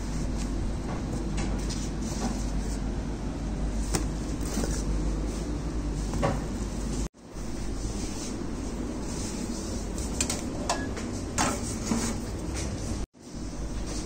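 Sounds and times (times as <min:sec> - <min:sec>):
low hum of kitchen equipment: 0:00.0 - 0:14.0.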